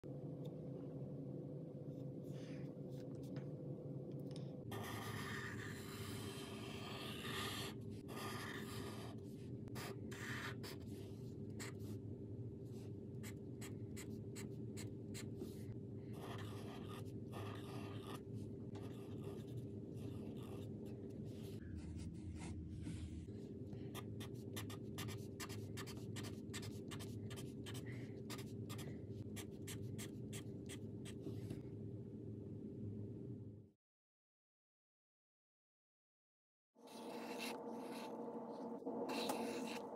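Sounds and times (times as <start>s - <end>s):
steady low hum: 0.0s - 33.7s.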